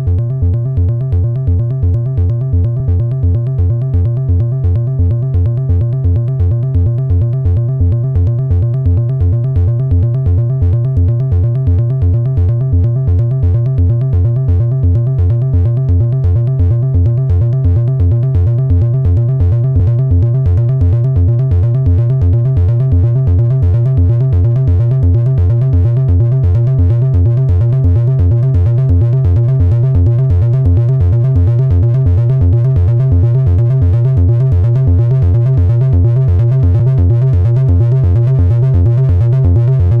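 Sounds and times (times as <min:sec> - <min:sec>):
repeating low synth bass note: 0:00.0 - 0:40.0.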